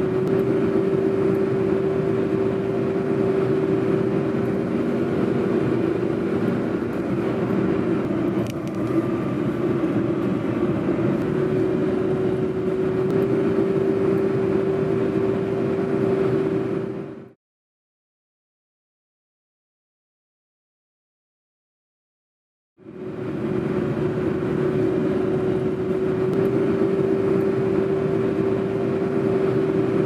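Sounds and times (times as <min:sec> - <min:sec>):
car driving on road: 0:00.0 - 0:17.4, 0:22.8 - 0:30.0.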